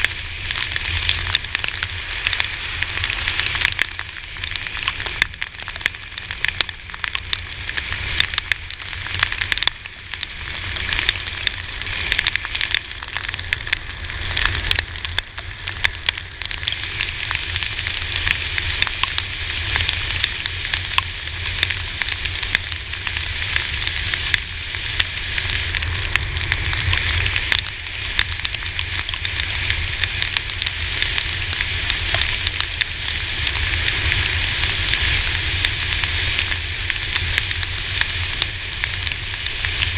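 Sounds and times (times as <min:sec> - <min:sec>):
rain ticking on camera: 0:00.0 - 0:39.9
rush of wind and road spray: 0:00.0 - 0:39.9.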